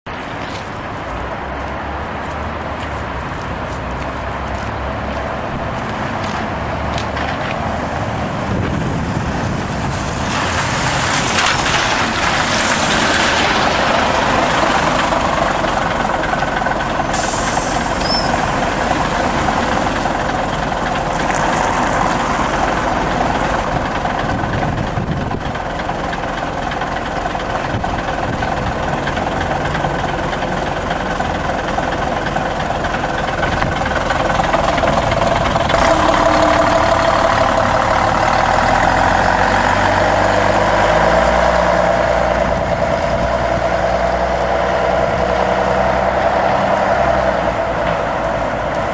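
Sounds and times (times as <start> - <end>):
bus diesel engine: 0.1 - 48.9.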